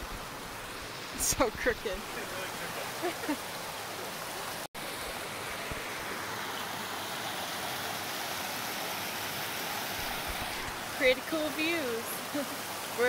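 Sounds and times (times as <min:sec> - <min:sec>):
creek rushing over boulders: 0:00.0 - 0:13.0.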